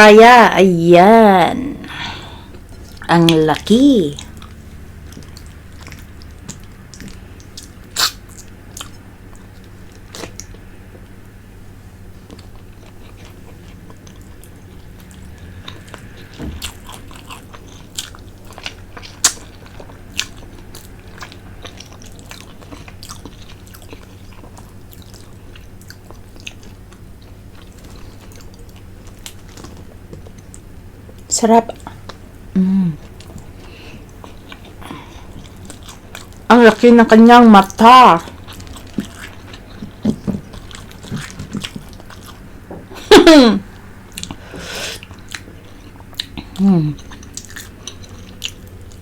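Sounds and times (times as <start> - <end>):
steady low hum: 0.0 - 49.0
chewing with sharp smacks: 4.2 - 10.6, 12.2 - 36.5, 38.2 - 42.6, 44.1 - 49.0.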